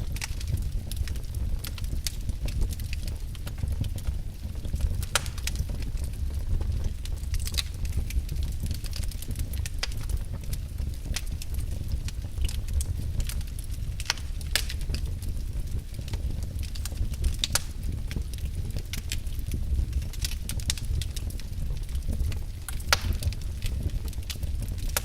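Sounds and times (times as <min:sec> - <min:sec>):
logs crackling and popping: 0:00.0 - 0:25.0
low rumble of flames: 0:00.0 - 0:25.0.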